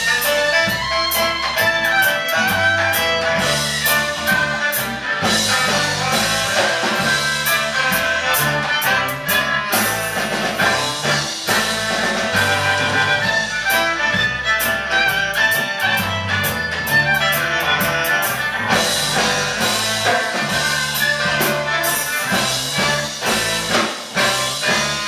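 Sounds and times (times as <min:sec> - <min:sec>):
fiddle: 0:00.0 - 0:25.0
live band playing: 0:00.0 - 0:25.0
saxophone: 0:00.0 - 0:25.0.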